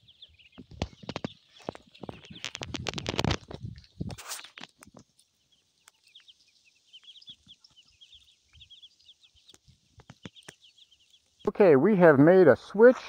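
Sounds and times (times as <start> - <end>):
rustle in grass and leaves: 0.0 - 11.5
ducklings peeping: 0.0 - 13.0.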